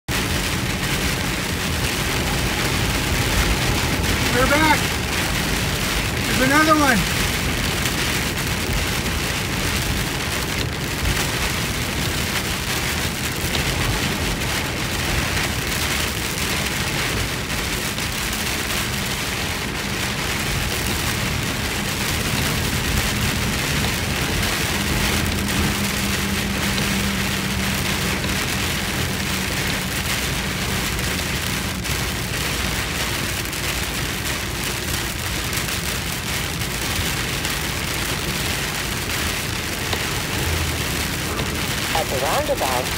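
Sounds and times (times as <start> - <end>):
heavy rain on car roof: 0.0 - 42.9
tyres on flooded road: 0.1 - 42.9.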